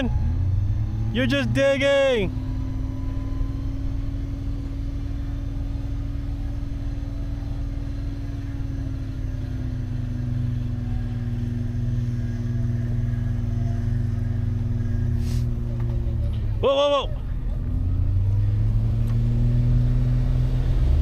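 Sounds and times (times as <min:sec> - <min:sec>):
truck engine rumbling under load: 0:00.0 - 0:21.0.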